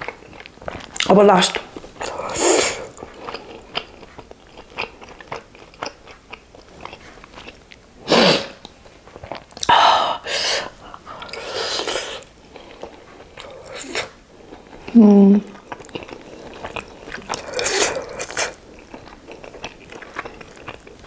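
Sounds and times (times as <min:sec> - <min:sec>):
close chewing with wet mouth clicks: 0:00.0 - 0:07.9, 0:08.6 - 0:09.7, 0:11.0 - 0:21.0.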